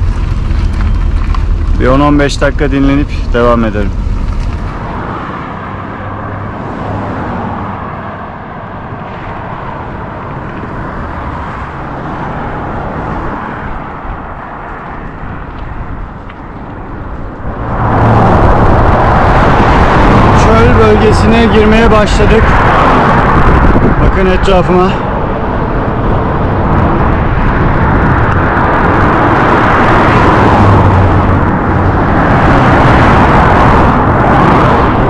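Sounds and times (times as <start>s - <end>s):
road traffic rushing: 0.0s - 35.0s
wind: 0.0s - 35.0s.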